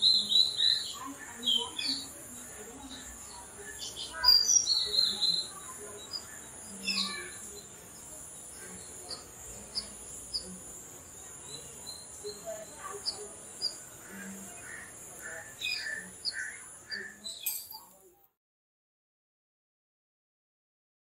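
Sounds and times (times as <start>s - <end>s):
birds chirping: 0.0s - 18.1s
steady high-pitched hiss: 0.0s - 18.1s.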